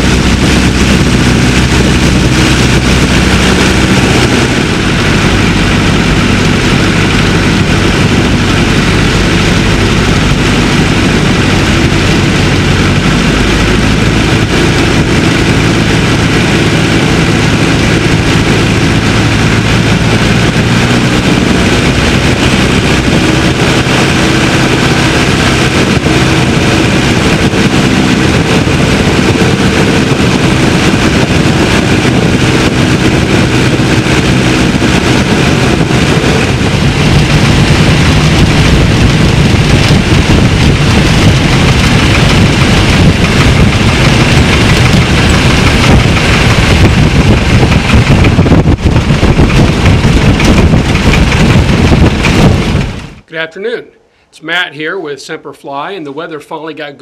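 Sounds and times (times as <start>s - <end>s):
light aircraft engine running: 0.0s - 53.3s
wheels rumbling on grass: 0.0s - 53.3s
wind rushing past: 0.0s - 53.4s.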